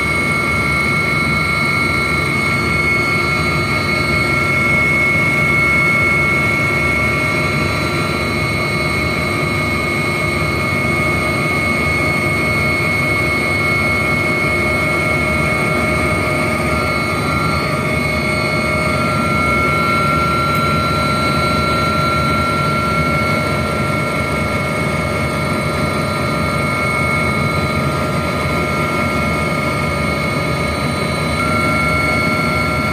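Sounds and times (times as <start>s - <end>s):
aircraft engine drone: 0.0s - 32.9s
high engine whine: 0.0s - 32.9s.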